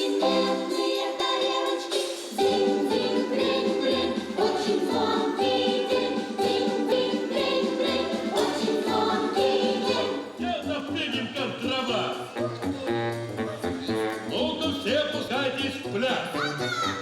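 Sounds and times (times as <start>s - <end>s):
stage musical background music: 0.0s - 17.0s.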